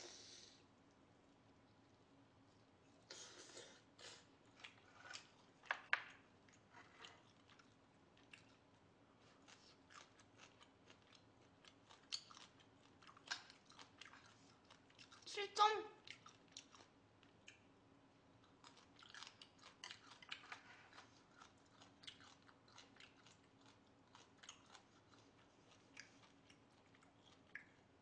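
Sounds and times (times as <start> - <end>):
person chewing: 2.5 - 15.3, 16.0 - 17.7, 18.3 - 28.0.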